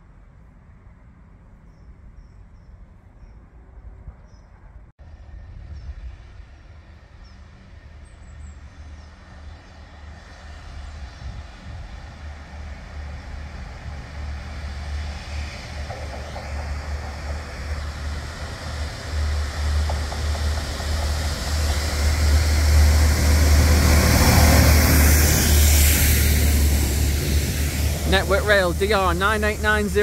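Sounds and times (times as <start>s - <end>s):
diesel train engine rumble: 5.0s - 30.0s.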